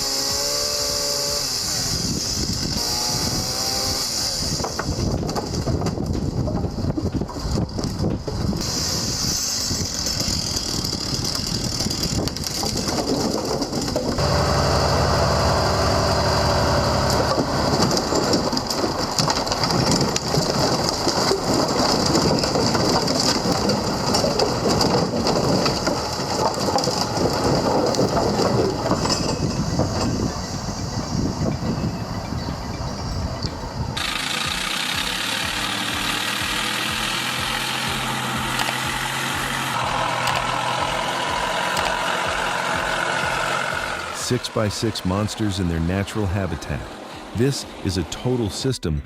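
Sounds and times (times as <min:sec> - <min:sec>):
steady engine tone: 0:00.0 - 0:06.0, 0:14.0 - 0:48.7
mechanical rattling and clatter: 0:00.0 - 0:44.6
heavy truck engine under load: 0:00.0 - 0:48.6.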